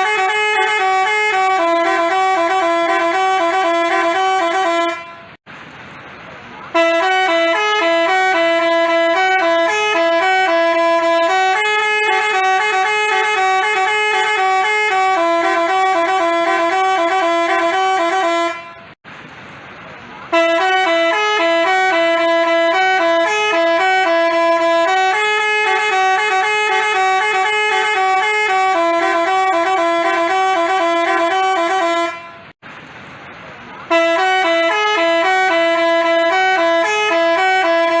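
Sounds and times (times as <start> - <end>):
bus horn playing melody: 0.0 - 5.4, 6.7 - 19.0, 20.3 - 32.6, 33.9 - 38.0.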